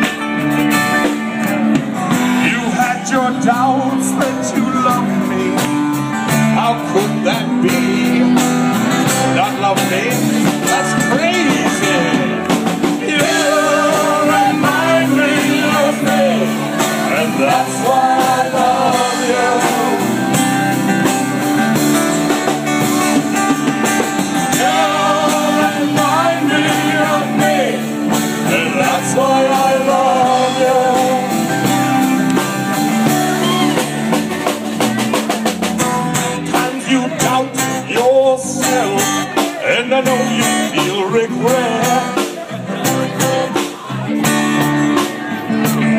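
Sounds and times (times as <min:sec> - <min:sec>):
live band playing blues rock: 0:00.0 - 0:45.9
strummed acoustic guitar: 0:00.0 - 0:45.9.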